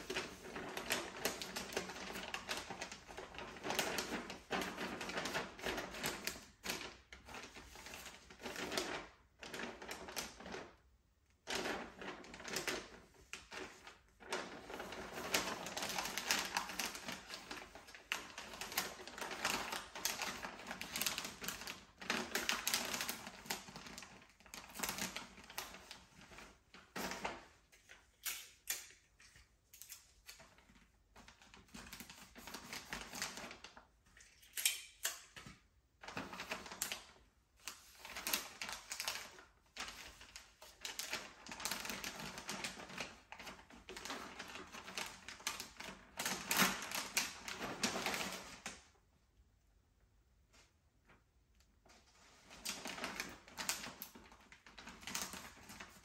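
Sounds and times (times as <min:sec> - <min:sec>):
wrapping paper crinkling: 0:00.0 - 0:48.9, 0:51.8 - 0:56.0.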